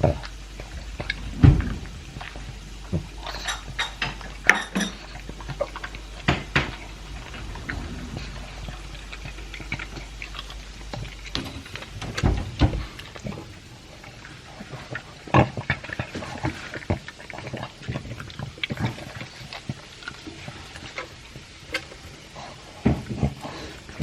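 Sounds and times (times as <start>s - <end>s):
dog crunching dry food: 0.0s - 24.0s.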